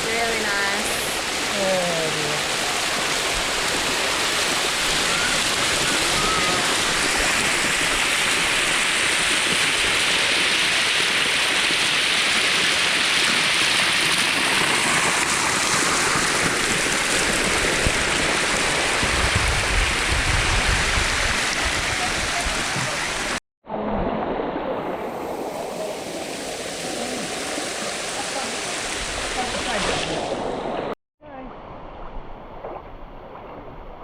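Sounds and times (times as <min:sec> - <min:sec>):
waterfall rushing: 0:00.0 - 0:23.4, 0:24.8 - 0:31.0.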